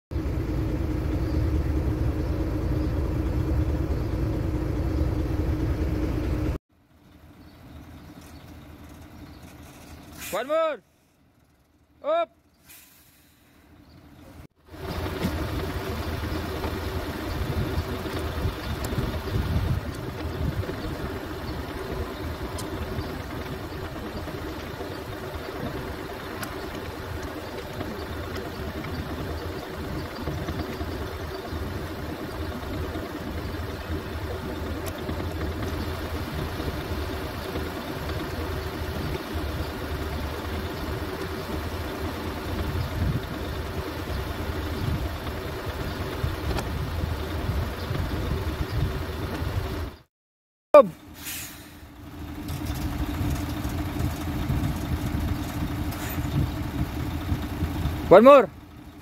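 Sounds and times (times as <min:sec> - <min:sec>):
truck diesel engine idling: 0:00.1 - 0:12.6, 0:13.4 - 0:50.1, 0:50.8 - 0:59.0.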